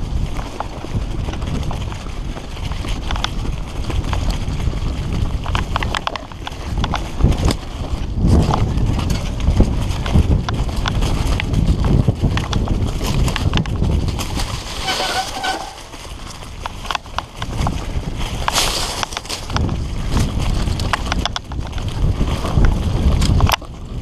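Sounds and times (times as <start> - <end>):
bike clattering and rattling: 0.0 - 24.0
bike tyre noise: 0.0 - 24.0
wind rumble on microphone: 0.0 - 24.0.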